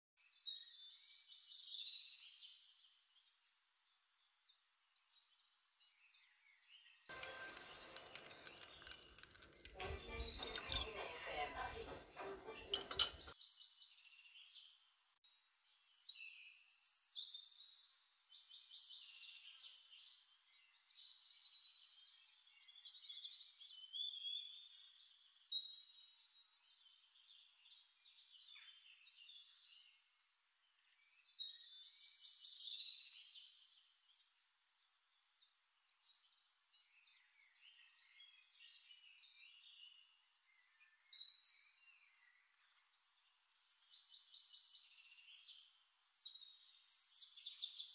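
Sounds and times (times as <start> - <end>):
faint bird chirping and twittering: 0.2 - 47.9.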